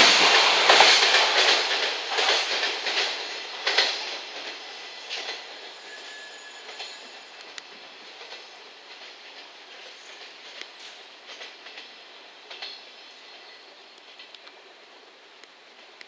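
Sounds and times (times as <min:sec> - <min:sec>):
train wheels clicking over rails: 0:00.0 - 0:13.4, 0:14.0 - 0:14.6.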